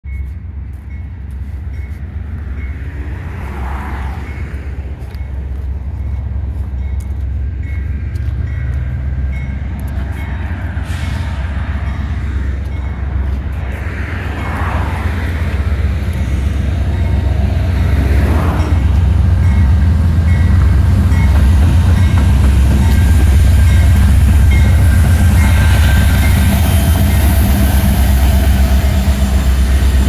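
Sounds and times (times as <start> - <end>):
train rumbling past: 0.1 - 30.0.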